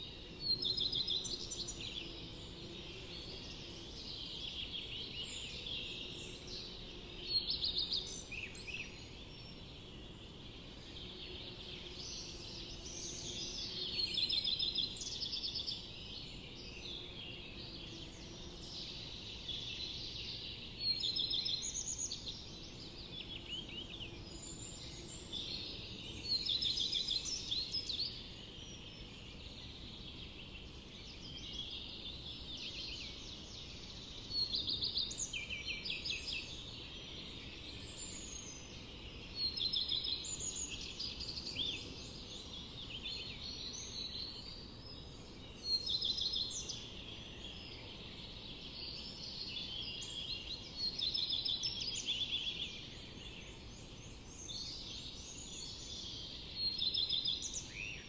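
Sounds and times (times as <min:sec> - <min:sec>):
low background hiss: 0:00.0 - 0:58.0
songbirds trilling: 0:00.0 - 0:58.0.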